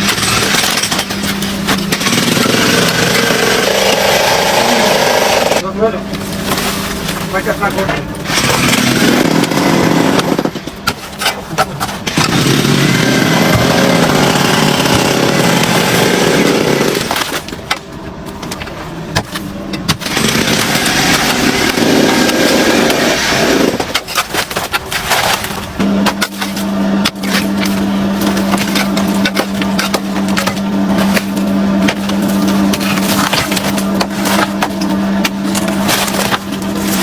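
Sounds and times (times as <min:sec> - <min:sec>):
motorized machinery humming: 0:00.0 - 0:37.0.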